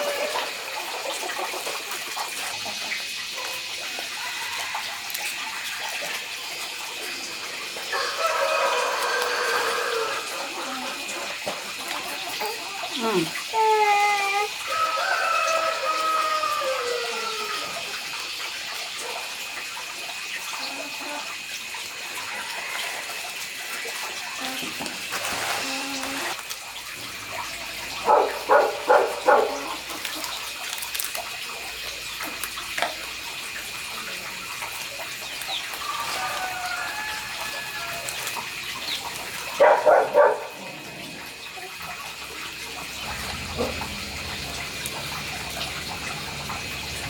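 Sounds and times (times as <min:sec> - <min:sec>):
water running and splashing: 0:00.0 - 0:47.0.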